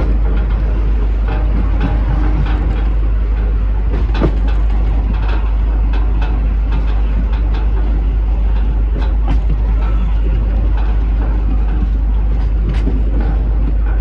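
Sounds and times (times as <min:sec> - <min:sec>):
clicks and rattles: 0:00.0 - 0:14.0
train rumbling on track: 0:00.0 - 0:14.0.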